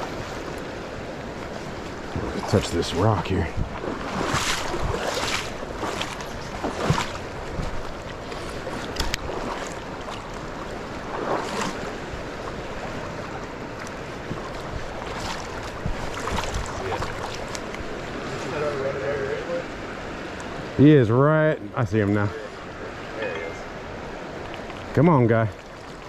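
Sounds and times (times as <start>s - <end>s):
river current rushing: 0.0s - 26.0s
water splashes: 0.0s - 26.0s.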